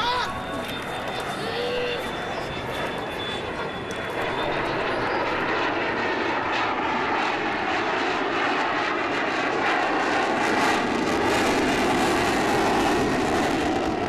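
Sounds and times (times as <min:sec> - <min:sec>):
jet engine roaring overhead: 0:00.0 - 0:14.0.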